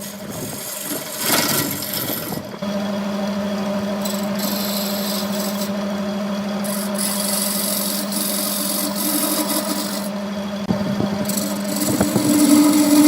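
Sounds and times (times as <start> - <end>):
tool rasping on spinning wood: 0.0 - 2.6, 4.0 - 5.9, 6.6 - 13.0
wood lathe humming: 0.0 - 13.0.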